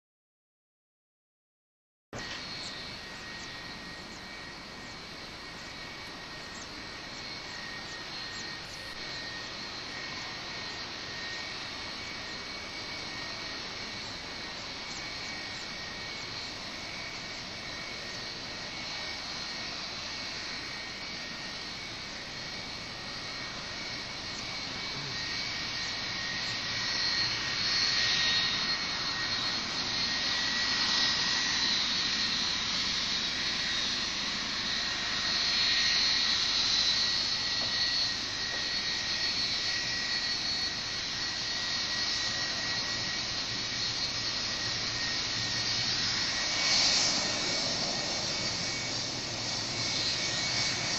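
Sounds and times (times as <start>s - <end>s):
jet engines whining: 2.2s - 50.9s.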